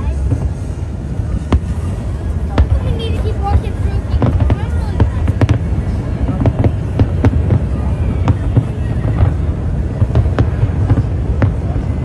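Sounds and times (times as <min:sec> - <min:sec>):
fireworks bursting: 0:00.0 - 0:12.0
low rumble: 0:00.0 - 0:12.0.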